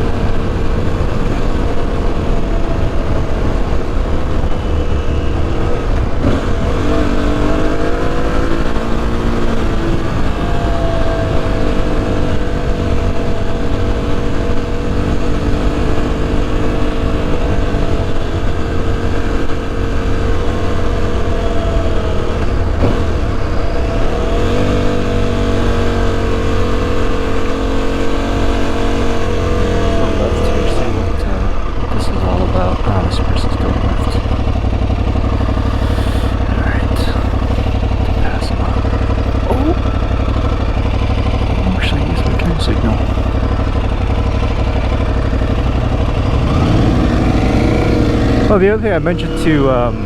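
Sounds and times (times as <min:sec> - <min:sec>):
motorcycle engine running: 0:00.0 - 0:50.0
wind and road rumble: 0:00.0 - 0:50.0.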